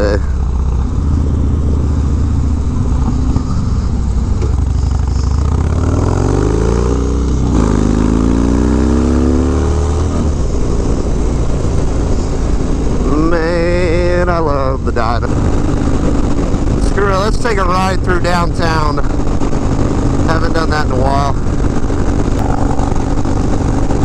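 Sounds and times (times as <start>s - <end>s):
motorcycle engine at road speed: 0.0s - 24.0s
wind noise: 0.0s - 24.0s.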